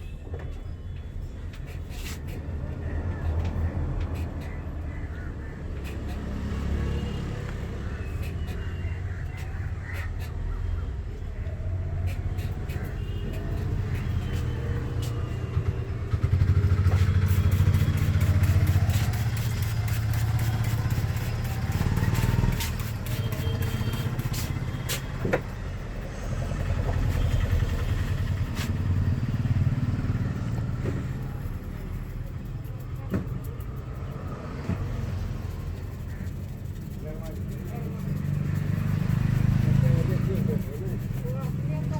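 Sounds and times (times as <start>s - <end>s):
vehicle engine rumbling: 0.0s - 41.9s.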